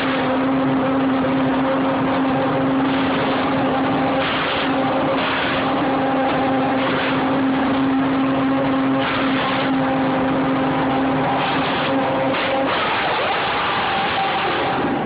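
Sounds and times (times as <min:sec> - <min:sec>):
race car engine running: 0:00.0 - 0:15.0.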